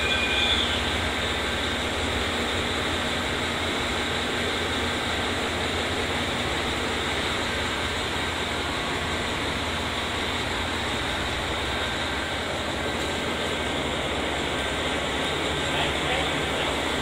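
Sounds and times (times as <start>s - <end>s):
idle trains humming and hissing: 0.0s - 17.0s.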